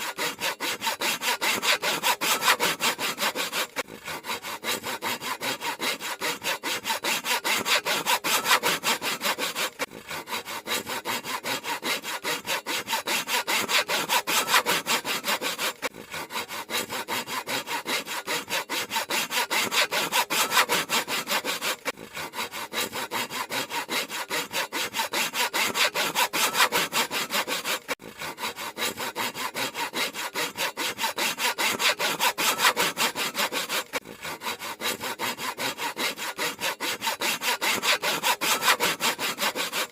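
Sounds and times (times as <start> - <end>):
handsaw cutting wood: 0.0 - 39.9.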